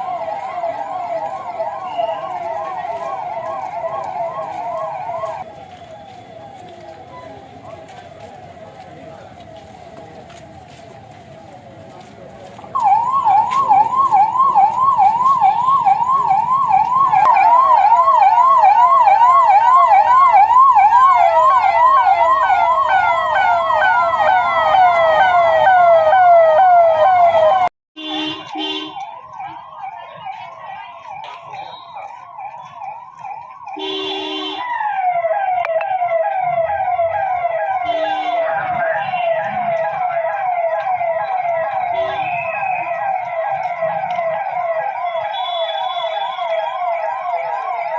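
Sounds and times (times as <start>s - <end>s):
police siren yelping: 0.0s - 9.8s, 12.7s - 27.7s, 28.3s - 47.9s.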